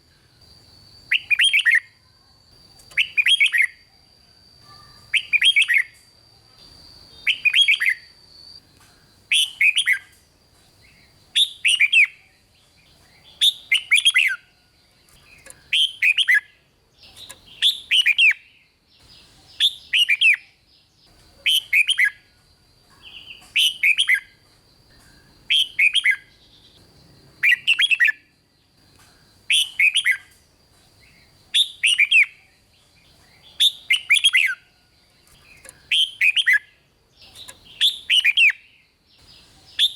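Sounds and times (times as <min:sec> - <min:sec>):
bulbul singing: 0:00.0 - 0:39.9
faint steady high tone: 0:00.0 - 0:39.9.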